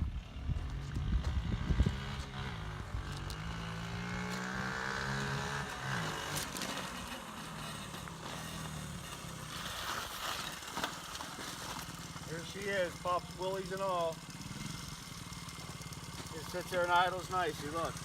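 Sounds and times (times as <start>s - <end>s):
small motorbike engine running: 0.0s - 18.0s.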